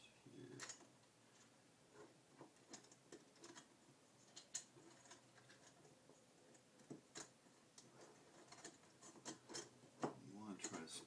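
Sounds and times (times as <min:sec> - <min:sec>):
small metal parts clicking: 0:00.6 - 0:05.9, 0:06.5 - 0:10.9.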